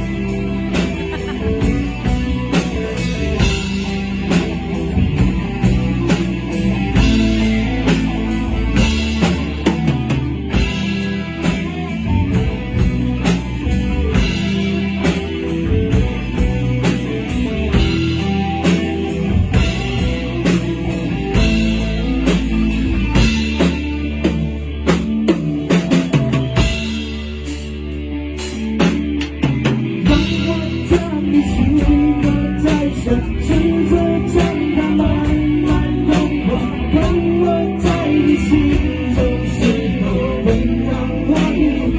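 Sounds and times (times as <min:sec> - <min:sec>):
rock band playing instrumental: 0:00.0 - 0:41.9.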